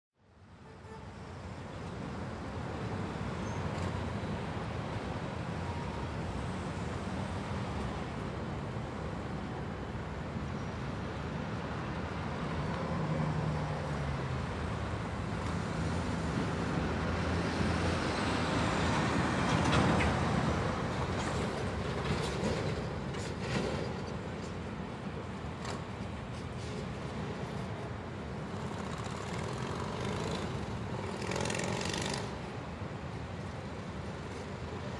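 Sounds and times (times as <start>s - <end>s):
street traffic: 0.2s - 34.9s.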